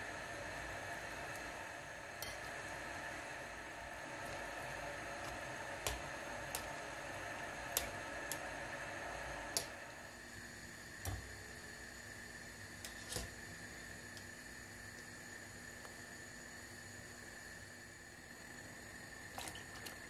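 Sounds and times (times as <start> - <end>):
water bubbling in a pot: 0.1 - 20.0.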